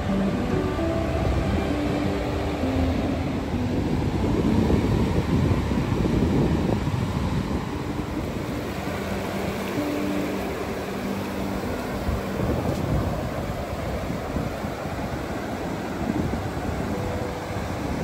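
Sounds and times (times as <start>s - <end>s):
ocean surf breaking on beach: 0.0s - 18.0s
wind rumble on microphone: 0.0s - 18.0s.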